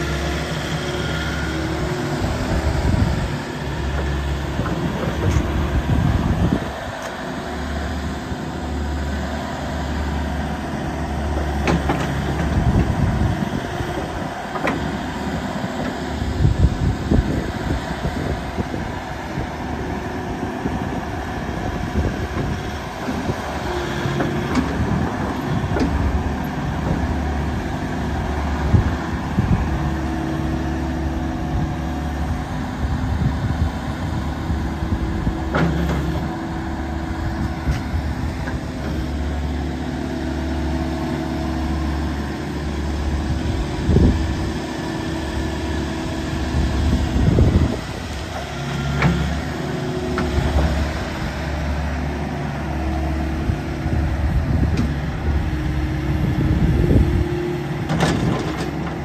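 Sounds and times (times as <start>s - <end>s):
excavator diesel engine hum: 0.0s - 59.0s
hydraulic whine: 11.2s - 59.0s.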